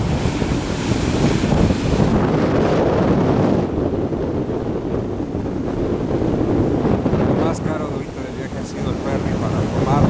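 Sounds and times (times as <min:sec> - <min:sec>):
ocean surf breaking on beach: 0:00.0 - 0:10.0
wind buffeting microphone: 0:00.0 - 0:10.0.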